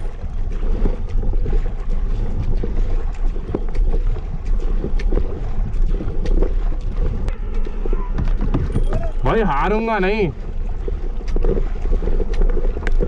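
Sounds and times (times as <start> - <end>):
paddle splashing in water: 0.0 - 13.0
wind buffeting microphone: 0.0 - 13.0.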